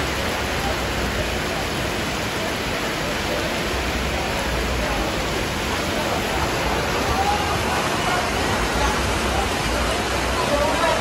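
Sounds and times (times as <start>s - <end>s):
heavy downpour: 0.0s - 11.0s
rushing floodwater: 0.0s - 11.0s.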